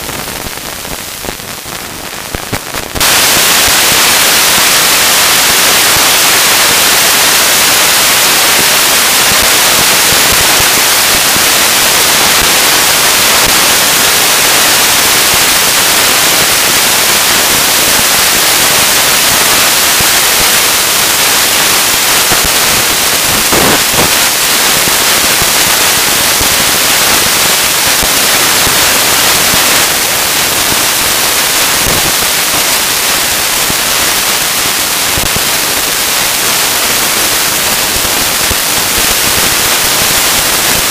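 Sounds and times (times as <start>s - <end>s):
wind hiss on microphone: 0.1s - 40.9s.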